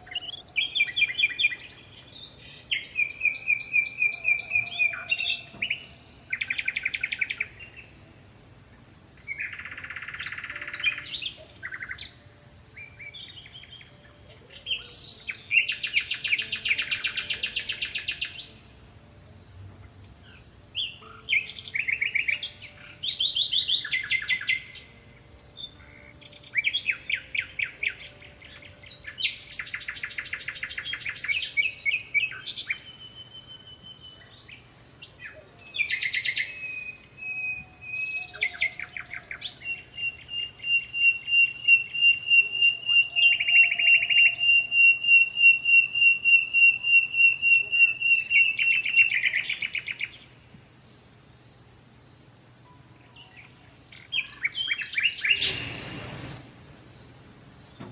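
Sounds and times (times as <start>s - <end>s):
faint steady high tone: 0.0s - 50.9s, 51.5s - 57.9s
songbirds singing and trilling: 0.0s - 57.9s.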